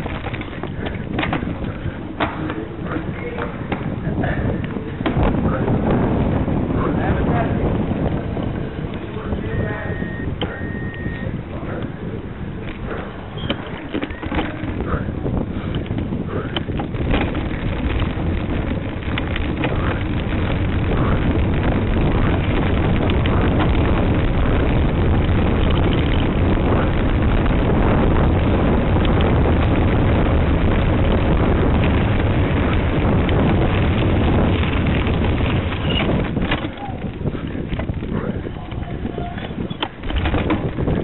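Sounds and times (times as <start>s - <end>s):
bike rattling over cobblestones: 0.0s - 41.0s
wind rushing over microphone: 0.0s - 41.0s.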